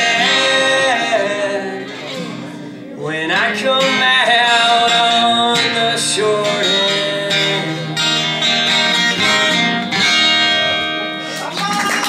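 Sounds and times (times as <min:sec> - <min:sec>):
acoustic guitar strumming: 0:00.0 - 0:11.8.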